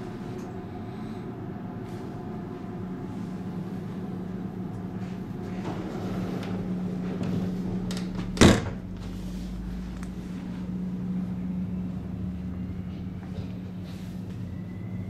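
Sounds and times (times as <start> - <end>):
train equipment hum: 0.0 - 15.0.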